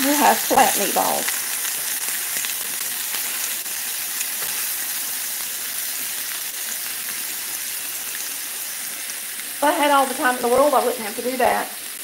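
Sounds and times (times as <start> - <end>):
meatballs sizzling in oil: 0.0 - 12.0
oil crackling: 0.0 - 12.0.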